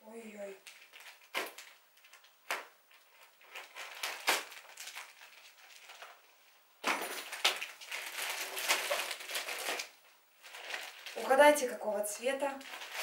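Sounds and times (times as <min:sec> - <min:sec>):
plastic bag crinkling: 0:00.4 - 0:13.0.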